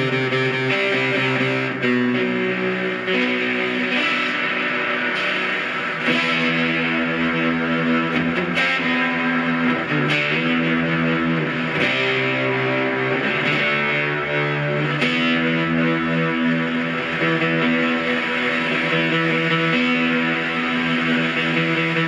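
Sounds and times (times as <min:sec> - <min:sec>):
distorted electric guitar chords: 0:00.0 - 0:22.0.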